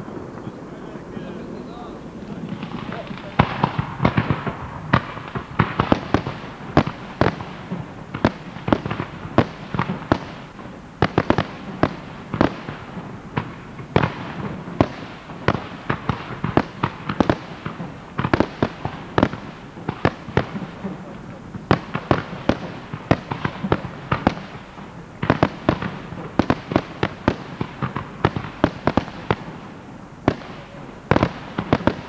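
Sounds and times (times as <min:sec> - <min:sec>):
firework shells bursting: 0:00.0 - 0:32.0.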